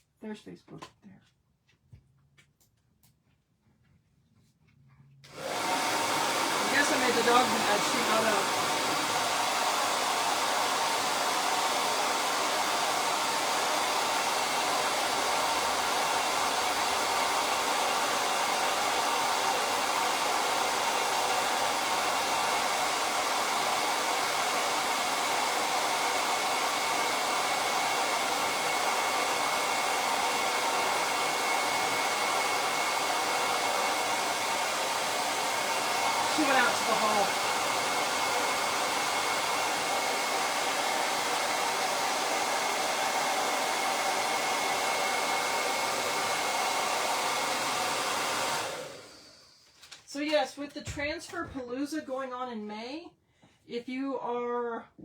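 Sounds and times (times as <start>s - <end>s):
hair dryer blowing: 5.2s - 51.9s.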